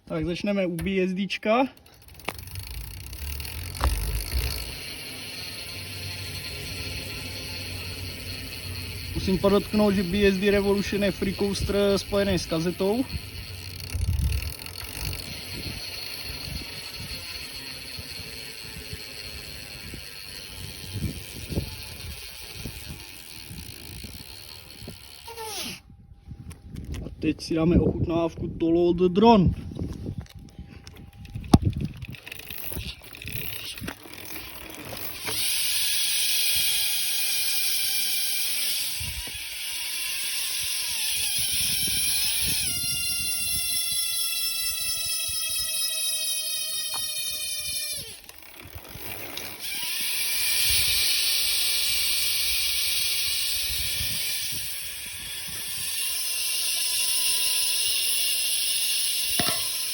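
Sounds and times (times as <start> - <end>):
bicycle hub ticking: 1.6 - 25.8, 30.8 - 59.9.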